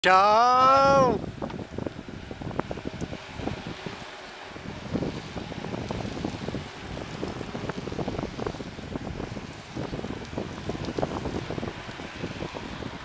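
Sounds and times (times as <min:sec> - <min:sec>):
mountain bikes riding past: 0:00.2 - 0:13.0
wind buffeting microphone: 0:00.5 - 0:13.0.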